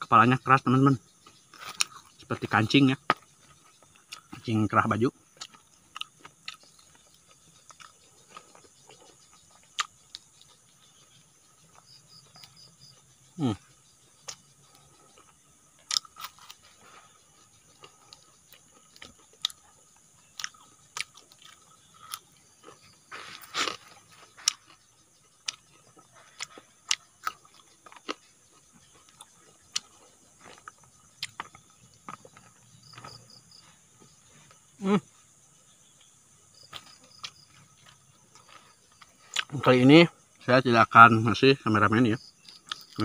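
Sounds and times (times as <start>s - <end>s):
chewing and crunching: 1.0s - 40.5s, 42.2s - 43.0s.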